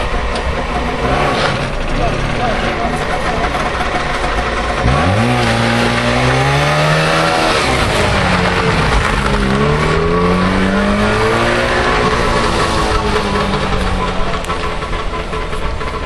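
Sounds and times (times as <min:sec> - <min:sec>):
two-stroke car engine revving: 0:00.0 - 0:16.0.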